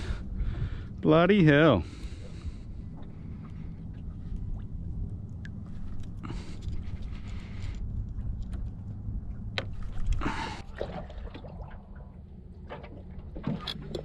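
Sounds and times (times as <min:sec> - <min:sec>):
low rumble of wind and water: 0:00.0 - 0:14.0.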